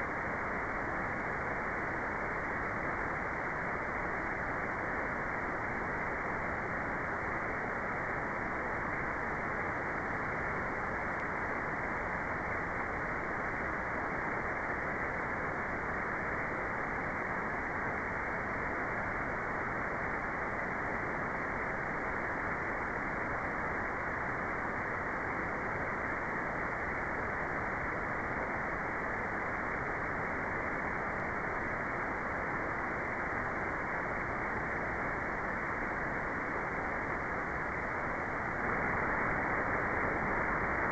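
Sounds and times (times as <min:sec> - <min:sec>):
dull white noise hiss: 0:00.0 - 0:40.9.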